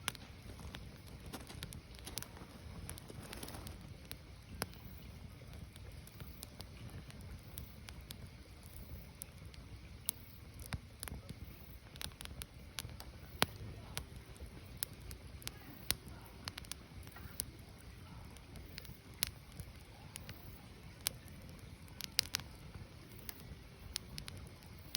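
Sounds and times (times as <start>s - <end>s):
firewood crackling and popping: 0.0s - 24.9s.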